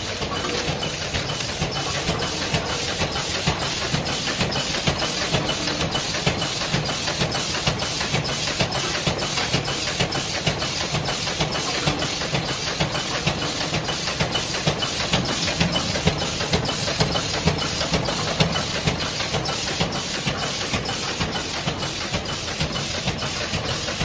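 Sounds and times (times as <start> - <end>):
machine rapid clicking: 0.0 - 24.0.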